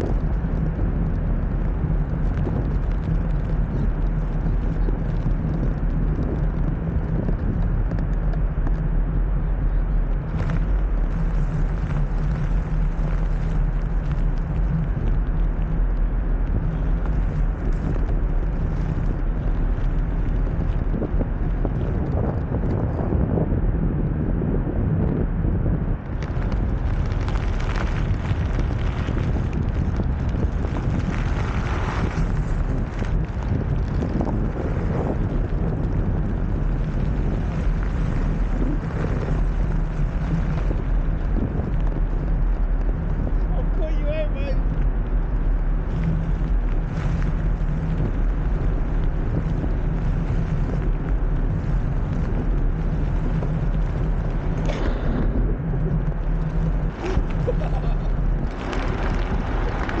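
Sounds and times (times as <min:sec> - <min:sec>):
tyres rolling over rough asphalt: 0:00.0 - 0:23.9, 0:24.7 - 1:00.0
wind rumble on microphone: 0:00.0 - 1:00.0.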